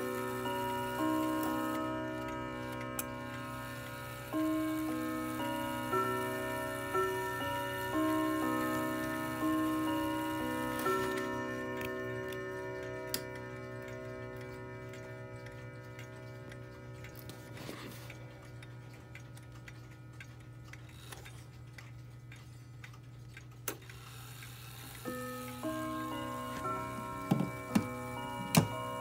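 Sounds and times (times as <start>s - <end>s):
clock chime rods ringing: 0.0s - 20.0s, 24.6s - 29.0s
clock ticking: 0.0s - 29.0s.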